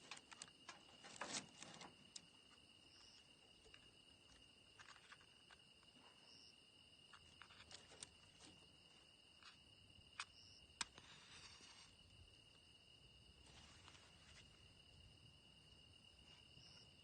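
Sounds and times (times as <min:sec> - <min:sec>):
high-pitched insect trill: 0:02.0 - 0:17.0.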